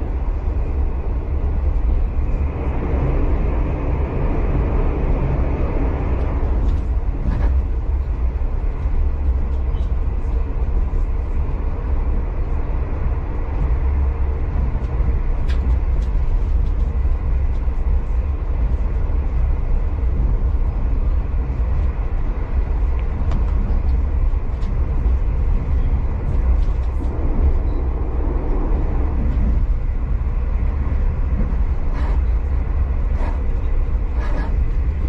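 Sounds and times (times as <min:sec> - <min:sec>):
train rumble inside carriage: 0:00.0 - 0:35.0.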